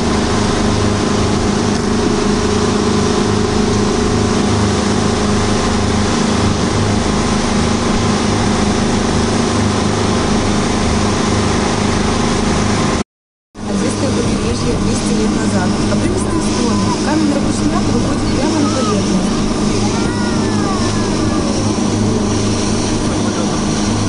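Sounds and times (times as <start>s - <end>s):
rushing water in wake: 0.0s - 13.0s, 13.6s - 24.0s
speedboat engine humming: 0.0s - 13.0s, 13.6s - 24.0s.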